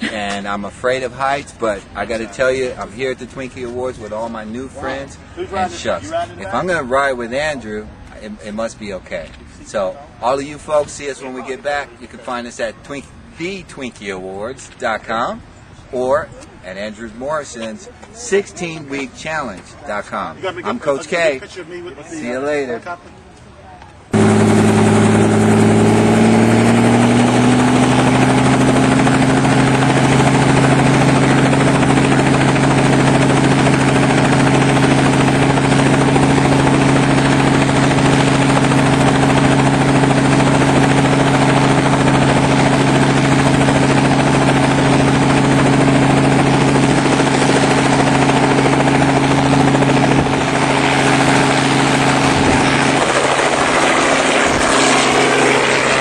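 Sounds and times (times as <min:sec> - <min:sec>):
helicopter hum: 0:00.0 - 0:21.5, 0:24.0 - 0:56.0.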